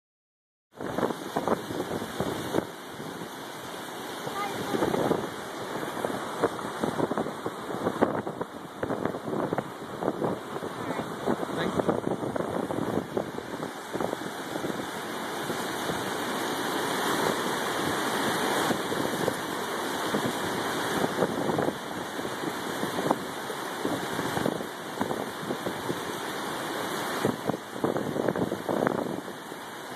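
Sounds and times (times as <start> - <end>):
water rushing down concrete steps: 0.8 - 29.9.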